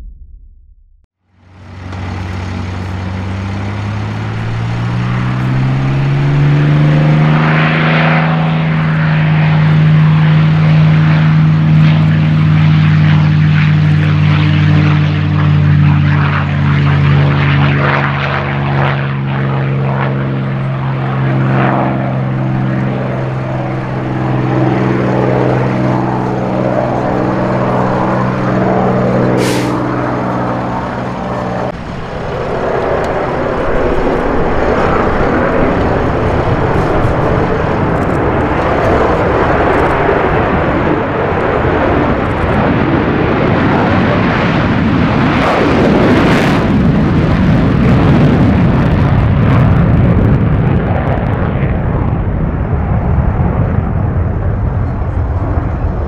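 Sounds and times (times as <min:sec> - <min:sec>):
propeller plane engine at takeoff: 0:01.2 - 0:56.0.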